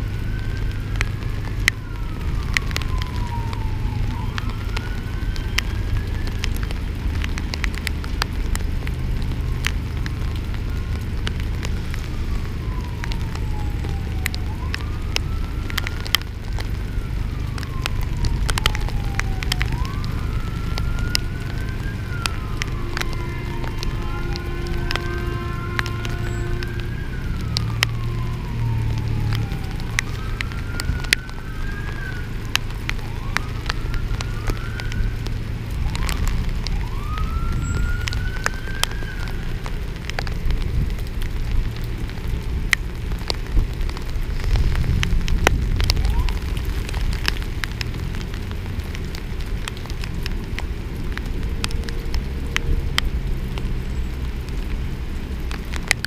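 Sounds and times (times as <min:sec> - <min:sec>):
emergency vehicle siren wailing: 0:00.0 - 0:56.0
raindrops tapping on camera: 0:00.0 - 0:56.0
steady rain: 0:00.0 - 0:56.0.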